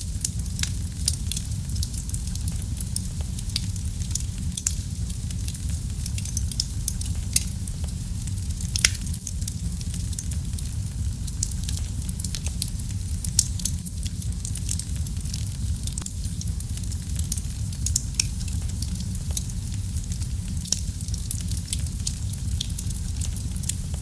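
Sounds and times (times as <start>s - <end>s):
fire crackles: 0.0s - 24.0s
fire pops: 0.0s - 24.0s
fire rumbling in a fireplace: 0.0s - 24.0s.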